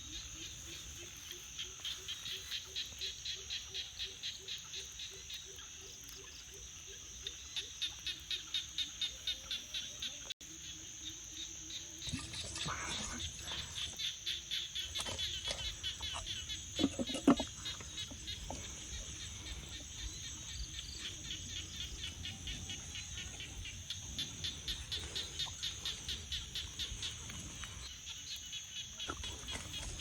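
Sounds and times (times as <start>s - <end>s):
insects droning: 0.0s - 30.0s
rapid pulsing insect chirp: 0.0s - 30.0s.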